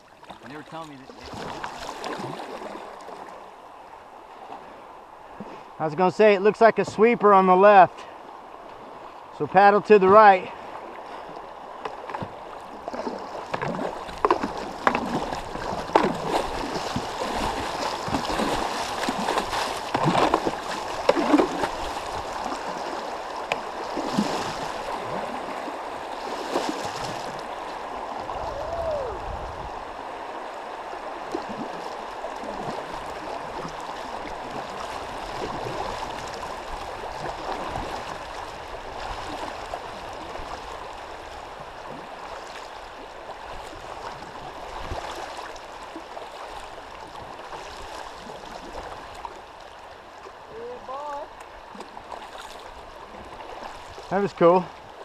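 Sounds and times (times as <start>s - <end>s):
paddle stroke splashes: 0.0s - 55.0s
river water rushing: 0.0s - 55.0s.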